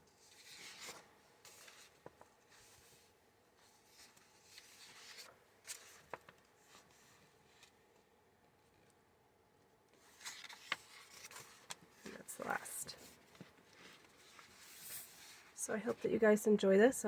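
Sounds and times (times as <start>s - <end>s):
paper pages rustling: 0.1s - 8.8s, 10.0s - 16.2s.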